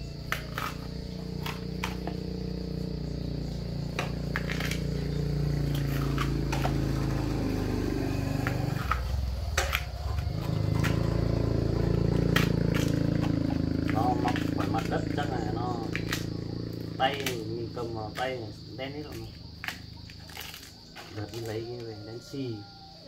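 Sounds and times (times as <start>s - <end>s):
motor engine running: 0.0s - 22.2s
husks cracking and peeling: 0.2s - 7.8s, 8.4s - 22.1s.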